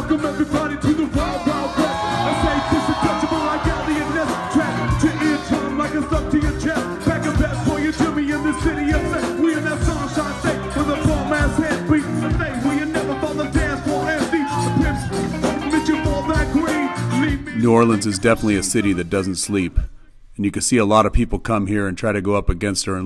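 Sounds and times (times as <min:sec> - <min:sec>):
man singing into microphone: 0:00.0 - 0:19.0
drums: 0:00.0 - 0:20.0.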